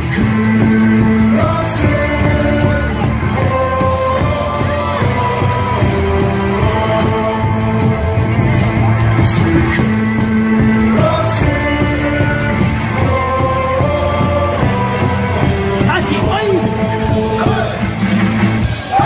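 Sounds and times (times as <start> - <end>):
upbeat band music with chanting: 0.0 - 19.0.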